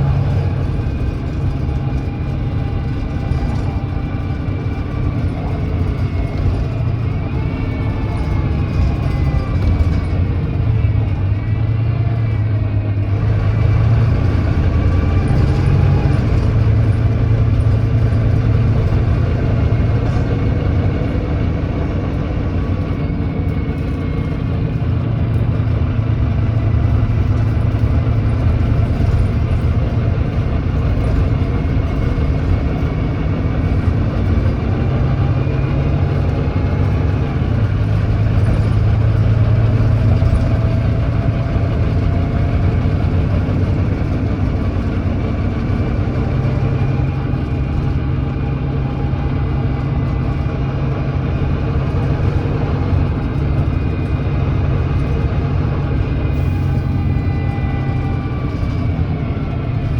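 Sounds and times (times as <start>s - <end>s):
diesel bus engine running: 0.0s - 59.9s.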